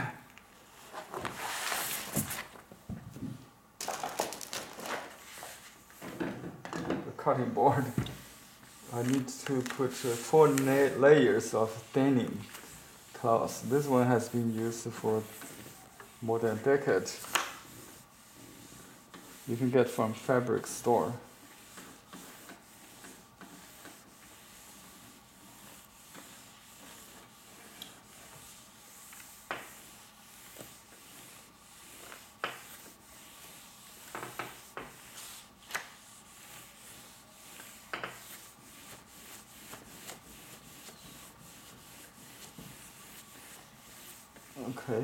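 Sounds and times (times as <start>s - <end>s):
iron rubbing over paper: 7.2s - 45.0s.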